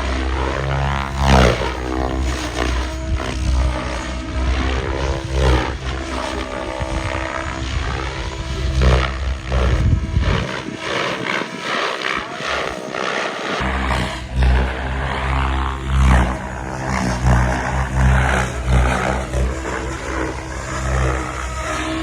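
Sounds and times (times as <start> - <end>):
model aircraft motor droning: 0.0 - 22.0.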